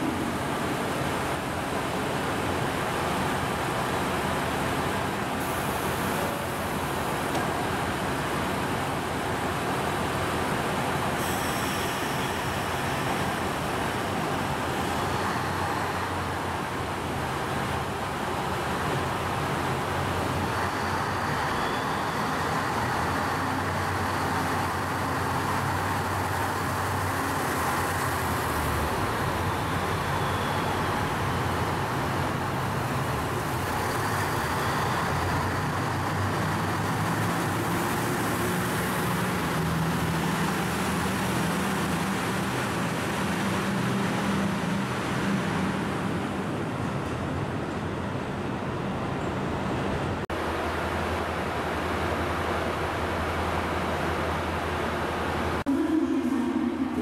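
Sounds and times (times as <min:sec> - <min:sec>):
diesel railcar passing: 0:00.0 - 0:57.0.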